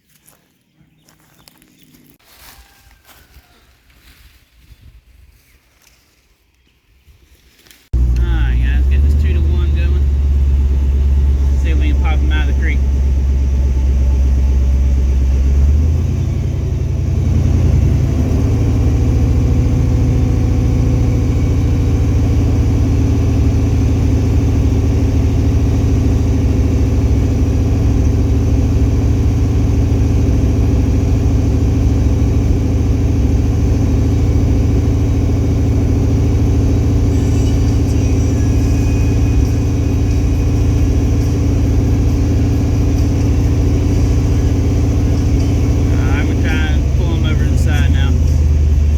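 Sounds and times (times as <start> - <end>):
truck engine running: 7.9 - 48.9.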